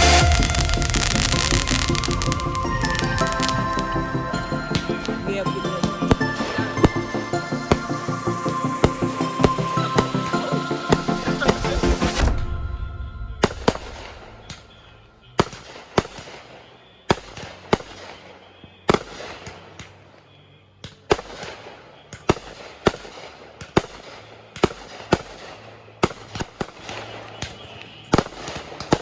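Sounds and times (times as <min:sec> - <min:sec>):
fireworks cracking and popping: 0:00.0 - 0:12.5, 0:13.3 - 0:18.3, 0:20.9 - 0:29.0.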